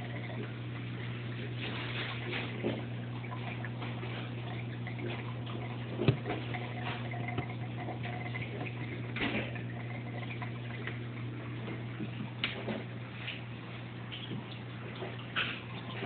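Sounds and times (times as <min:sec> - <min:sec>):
filter humming: 0:00.0 - 0:16.0
water trickling: 0:00.0 - 0:16.0.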